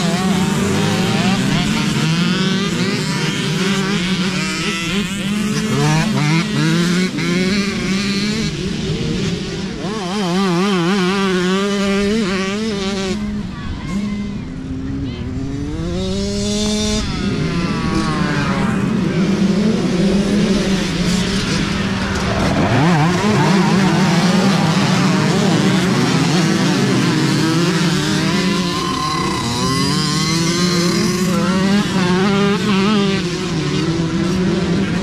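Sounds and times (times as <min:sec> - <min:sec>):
dirt bikes revving past: 0:00.0 - 0:35.0.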